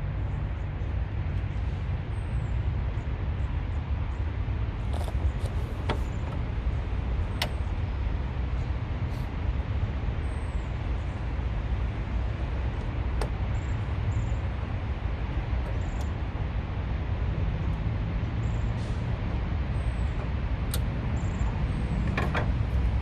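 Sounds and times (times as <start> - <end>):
highway traffic rumble: 0.0 - 23.0.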